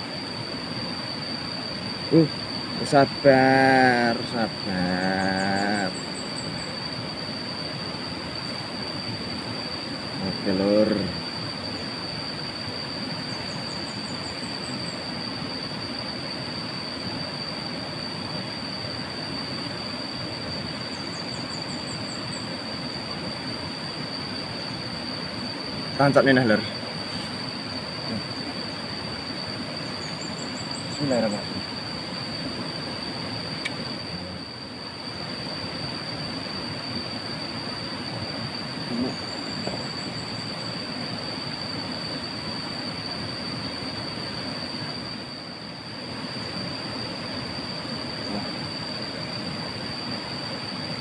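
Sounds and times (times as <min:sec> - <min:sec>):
insect drone: 0:00.0 - 0:51.0.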